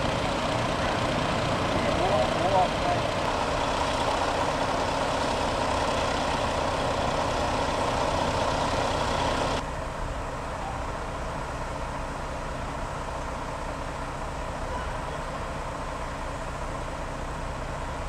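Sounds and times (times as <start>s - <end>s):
diesel engines idling: 0.0s - 18.0s.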